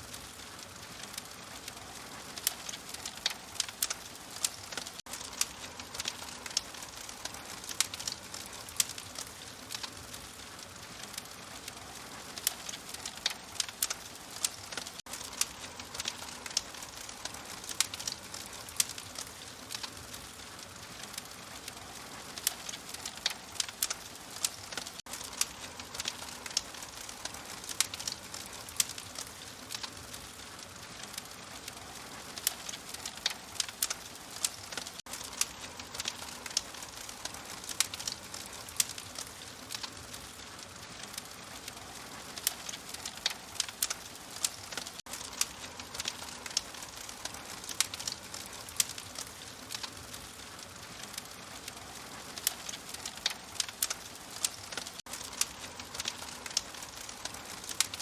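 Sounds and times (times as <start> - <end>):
fire crackling in a fireplace: 0.0 - 58.0.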